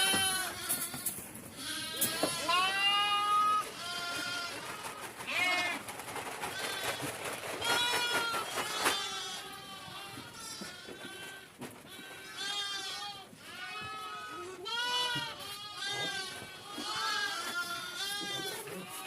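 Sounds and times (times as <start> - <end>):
goats and sheep bleating: 0.0 - 19.0.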